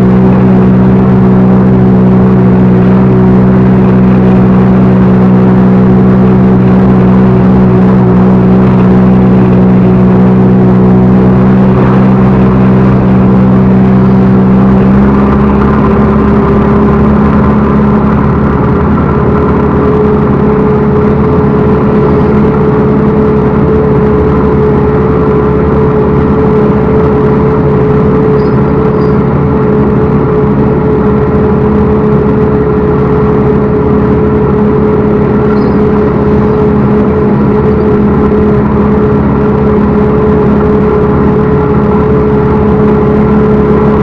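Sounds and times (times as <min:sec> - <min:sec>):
diesel engine running loud: 0:00.0 - 0:44.0.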